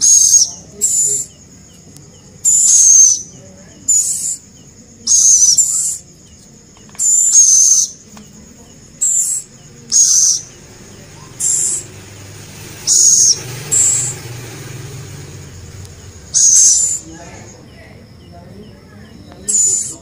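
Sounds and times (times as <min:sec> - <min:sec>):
owl high-pitched calls: 0:00.0 - 0:01.5, 0:02.4 - 0:17.5, 0:19.2 - 0:20.0.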